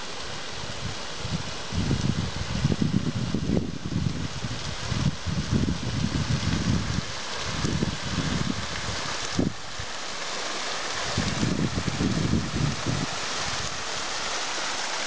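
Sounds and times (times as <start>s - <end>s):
wind buffeting microphone: 0.0s - 14.4s
waterfall splashing: 0.0s - 15.0s.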